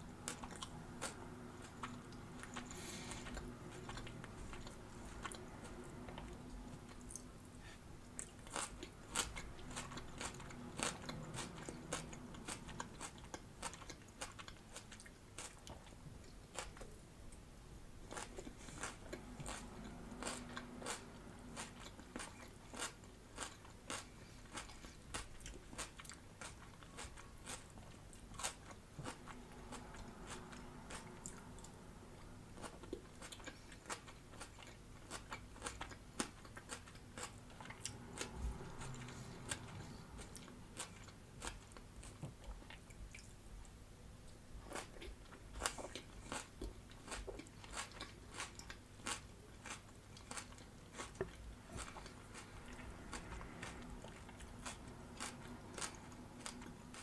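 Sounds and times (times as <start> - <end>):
chewing crunchy salad: 0.0 - 17.4, 18.0 - 57.0.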